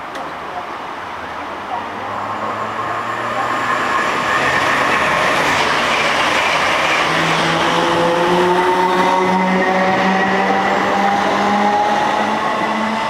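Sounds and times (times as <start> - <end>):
wheels on rail: 1.5 - 13.0.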